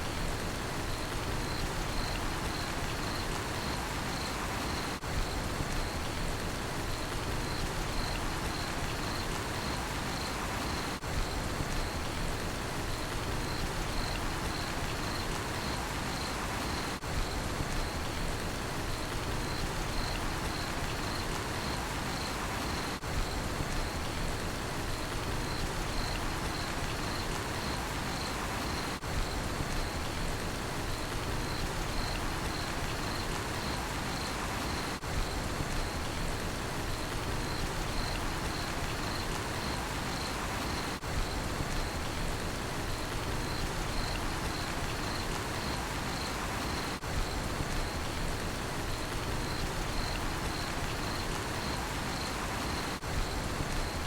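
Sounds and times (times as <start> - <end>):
rain falling: 0.0 - 54.0
cricket chirping: 0.8 - 6.2, 6.9 - 12.2, 12.8 - 18.2, 18.9 - 24.2, 25.0 - 30.2, 30.9 - 36.3, 36.9 - 54.0.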